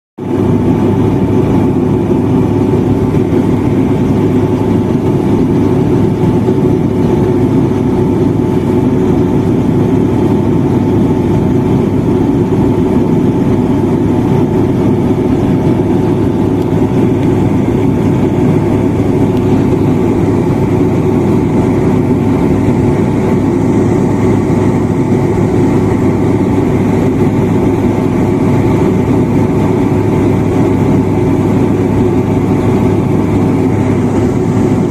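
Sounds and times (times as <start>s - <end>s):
turboprop engines droning: 0.2s - 34.9s.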